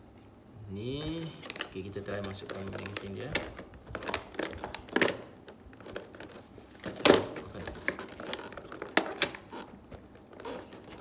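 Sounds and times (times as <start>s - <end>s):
plastic packaging crinkling: 1.2s - 11.0s.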